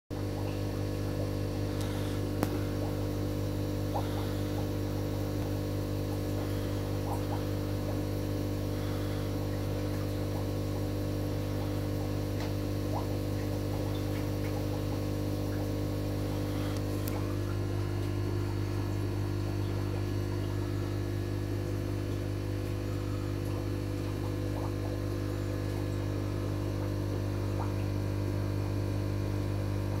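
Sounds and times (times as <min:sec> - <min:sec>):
low electrical mains hum: 0:00.2 - 0:30.0.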